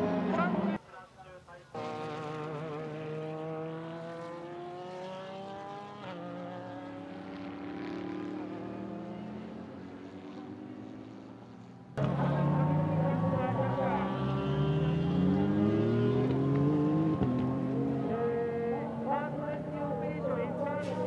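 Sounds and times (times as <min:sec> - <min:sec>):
racing car engine accelerating: 0:01.7 - 0:10.6, 0:12.0 - 0:21.0.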